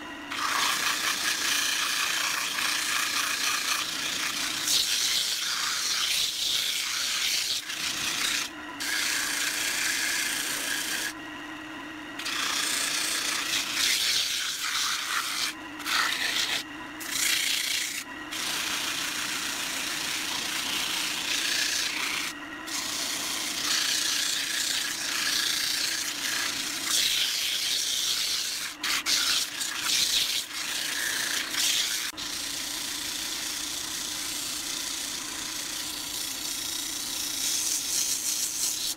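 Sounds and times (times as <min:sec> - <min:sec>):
wood lathe humming: 0:00.0 - 0:38.9
sandpaper hissing on spinning wood: 0:00.3 - 0:11.2, 0:12.2 - 0:38.9.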